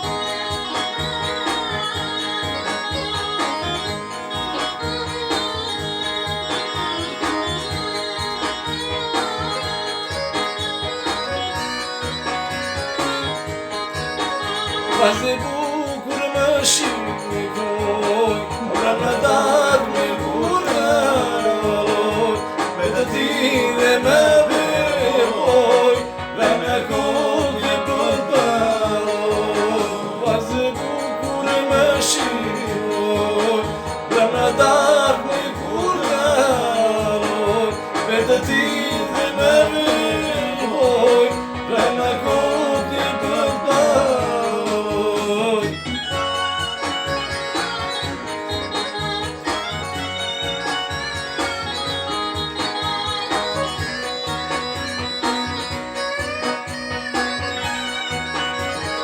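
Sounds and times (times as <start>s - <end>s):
song with singing voice: 0.0s - 59.0s.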